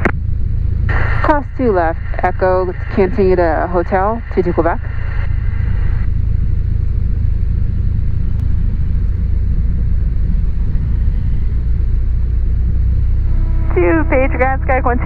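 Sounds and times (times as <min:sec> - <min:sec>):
aircraft piston engine running: 0:00.0 - 0:15.0.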